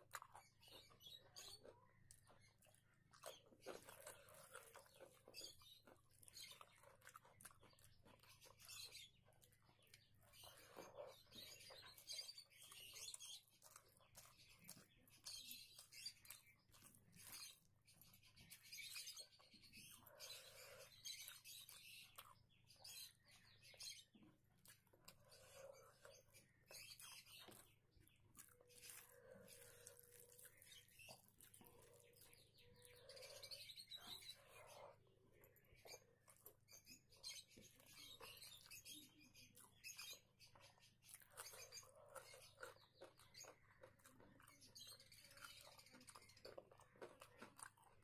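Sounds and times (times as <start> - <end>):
chewing mouth clicks and smacks: 0.0 - 48.0
eating food by hand: 0.0 - 48.0
fingers squelching rice and curry: 0.0 - 48.0.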